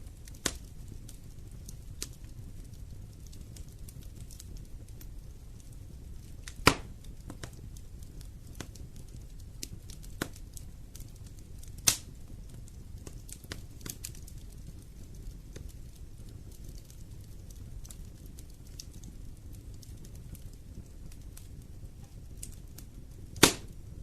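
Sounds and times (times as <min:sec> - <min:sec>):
fireplace fire crackling: 0:00.0 - 0:24.0
loud fire pops: 0:00.0 - 0:24.0.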